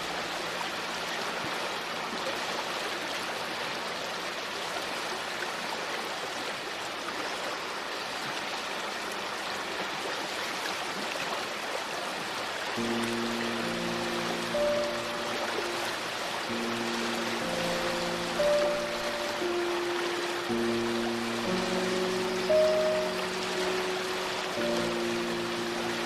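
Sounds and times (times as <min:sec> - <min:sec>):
river water flowing: 0:00.0 - 0:26.0.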